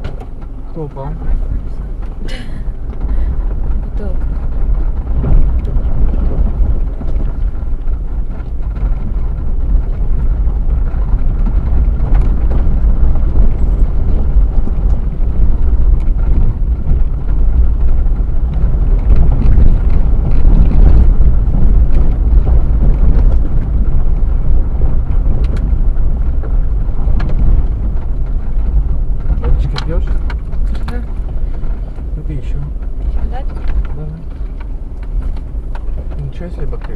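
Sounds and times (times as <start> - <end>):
off-road vehicle rumble: 0.0 - 36.9
wind buffeting microphone: 0.0 - 36.9.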